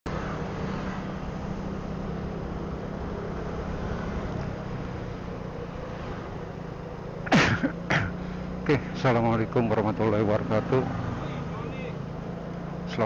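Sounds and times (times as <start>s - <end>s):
wind and road noise: 0.1s - 13.0s.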